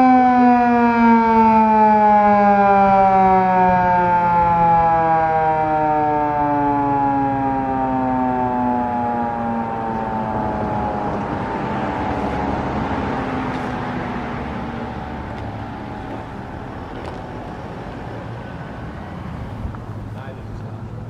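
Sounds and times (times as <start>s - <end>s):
fire siren winding down: 0.0s - 17.2s.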